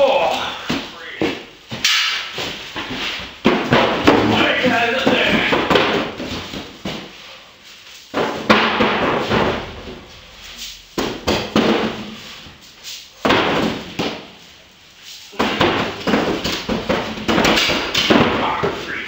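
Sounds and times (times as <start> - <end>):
objects thumping and clattering: 0.0 - 19.0.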